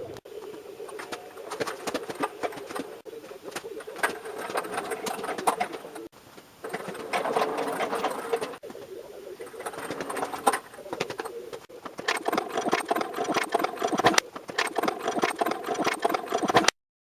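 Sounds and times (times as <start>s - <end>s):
mechanical clatter with clicks: 0.9s - 8.6s, 9.4s - 16.8s.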